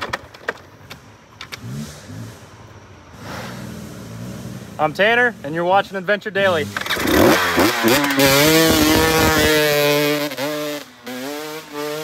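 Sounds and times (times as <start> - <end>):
dirt bike engine revving: 1.5 - 12.0.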